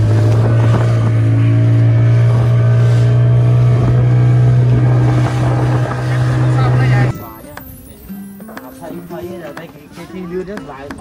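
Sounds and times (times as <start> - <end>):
motorboat engine droning: 0.0 - 9.6.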